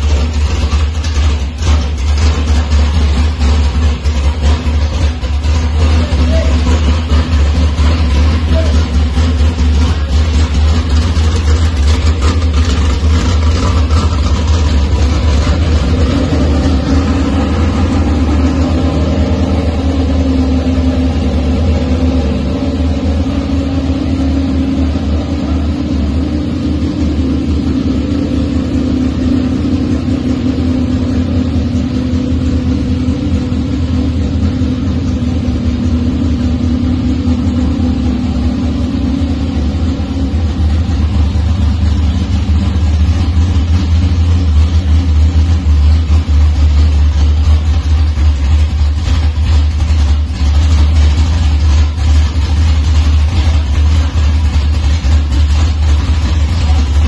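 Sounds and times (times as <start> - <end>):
car engine idling loudly: 0.0 - 57.0.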